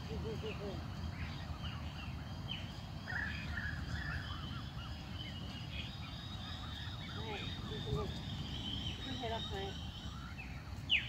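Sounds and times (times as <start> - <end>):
cygnets peeping: 0.0 - 11.0.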